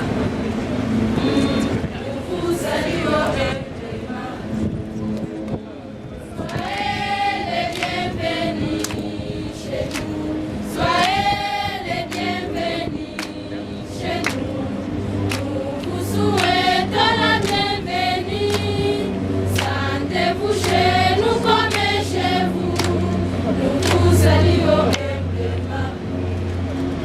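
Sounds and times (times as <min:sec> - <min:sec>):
low sung tone: 0:00.0 - 0:26.7
choir singing: 0:01.2 - 0:04.8, 0:06.3 - 0:26.2.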